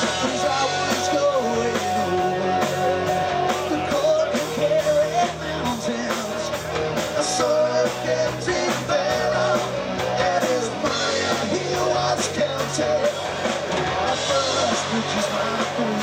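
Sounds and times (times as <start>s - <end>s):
bass guitar: 0.0s - 16.0s
drums: 0.0s - 16.0s
electric guitars: 0.0s - 16.0s
singer's vocals: 0.0s - 16.0s.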